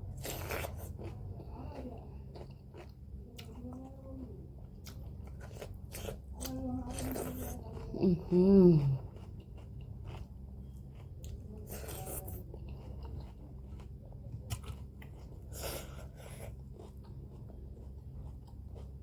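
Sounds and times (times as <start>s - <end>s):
food crunching: 0.1s - 1.5s, 4.8s - 19.0s
person chewing with mouth clicks: 0.2s - 1.5s, 2.3s - 3.8s, 4.7s - 19.0s.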